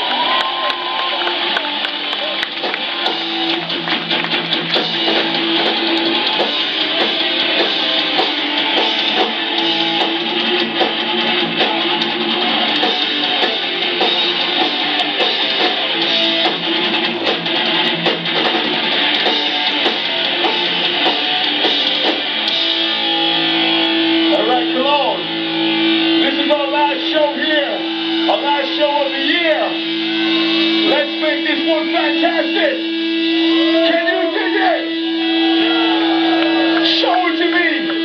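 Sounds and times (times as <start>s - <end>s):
punk band playing live: 0.0s - 38.0s.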